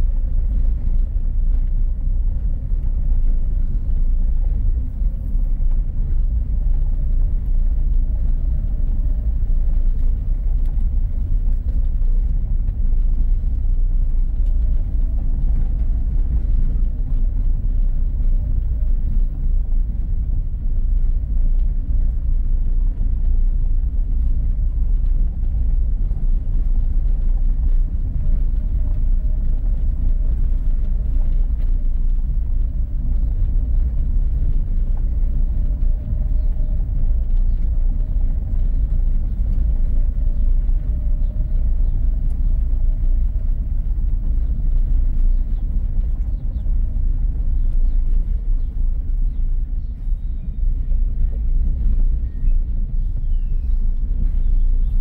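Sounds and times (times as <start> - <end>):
car rolling over cobblestones: 0.0 - 55.0.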